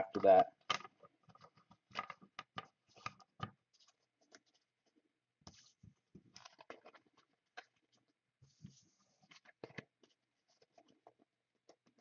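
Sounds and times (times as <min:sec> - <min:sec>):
cards and cardboard rustling: 0:00.1 - 0:12.0.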